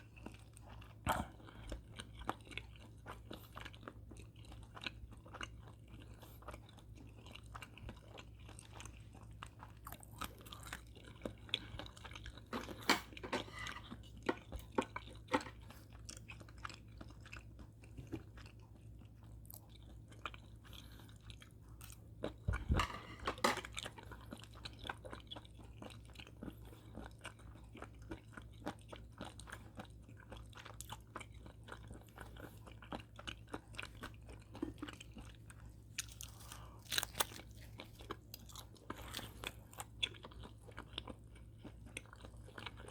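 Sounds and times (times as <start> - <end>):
person chewing crunchy food: 0.0 - 42.9.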